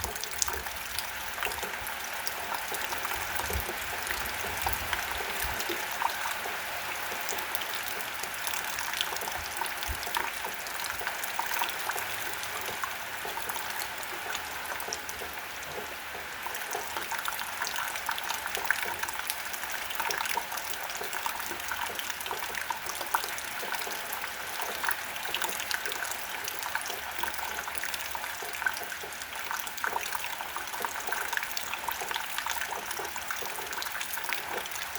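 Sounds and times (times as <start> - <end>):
raindrops ticking: 0.0 - 34.9
water trickling: 0.0 - 34.9.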